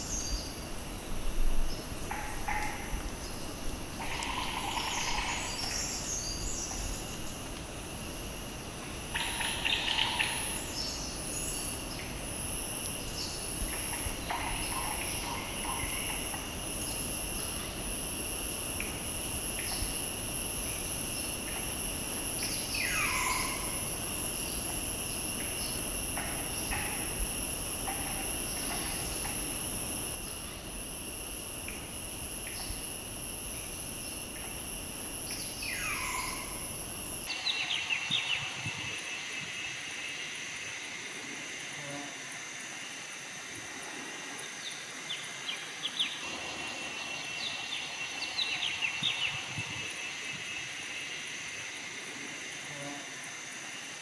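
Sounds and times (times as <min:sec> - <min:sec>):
insects whining: 0:00.0 - 0:54.0.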